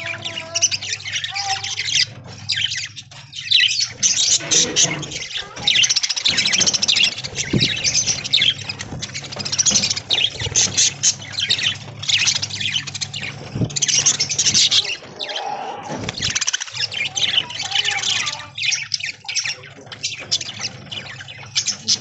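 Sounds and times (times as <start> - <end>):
budgerigars chattering and squawking: 0.0 - 22.0.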